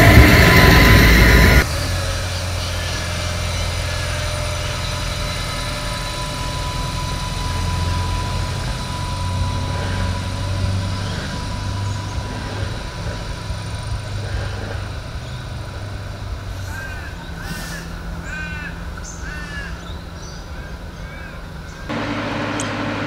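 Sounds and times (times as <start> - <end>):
diesel railcar engine drone: 0.0 - 23.0.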